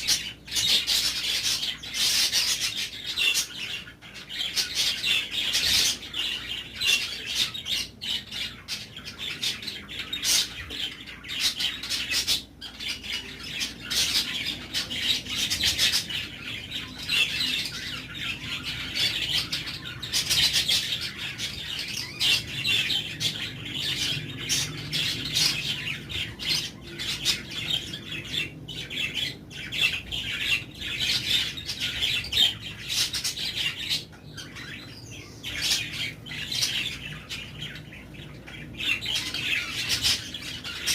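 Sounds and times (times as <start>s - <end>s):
caged birds chirping and squawking: 0.0s - 40.9s.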